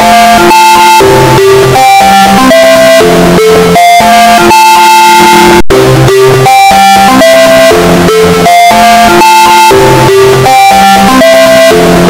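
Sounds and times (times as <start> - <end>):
distorted phone ringtone melody: 0.0 - 12.0.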